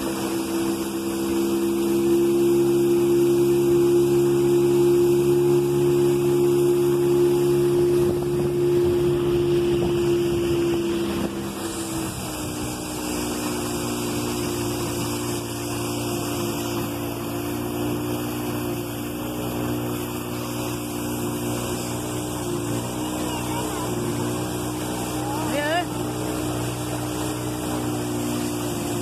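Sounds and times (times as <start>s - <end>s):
outboard motor hum: 0.0s - 29.0s
water rushing along hull: 0.0s - 29.0s.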